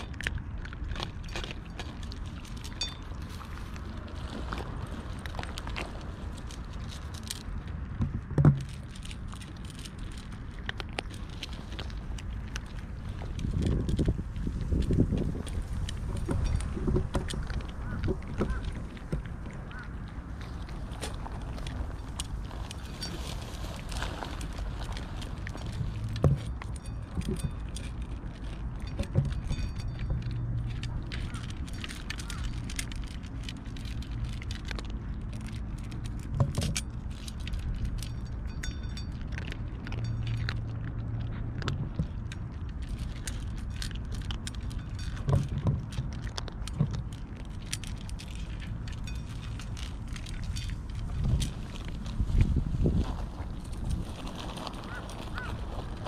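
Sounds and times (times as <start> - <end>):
cats crunching kibble in metal bowls: 0.0 - 56.0
low steady hum: 0.0 - 56.0.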